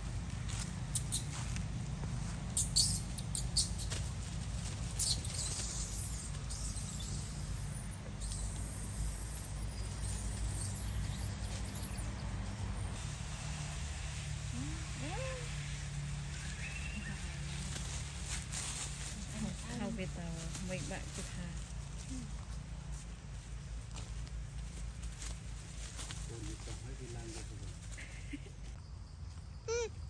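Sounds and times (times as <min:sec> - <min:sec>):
dry leaves crackling and rustling: 0:00.0 - 0:28.5.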